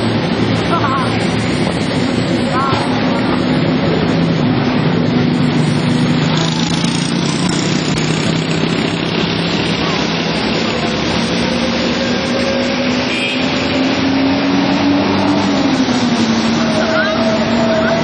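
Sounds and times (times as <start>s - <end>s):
loud noisy rush: 0.0s - 18.0s
vehicle engine revving: 0.0s - 18.0s.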